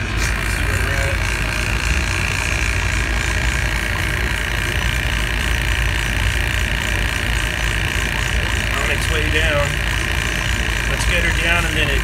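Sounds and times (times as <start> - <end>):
vacuum pump running: 0.0 - 12.0.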